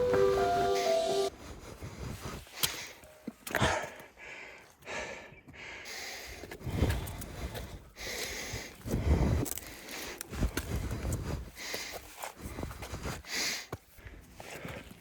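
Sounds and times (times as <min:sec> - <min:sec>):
person breathing hard: 0:00.8 - 0:15.0.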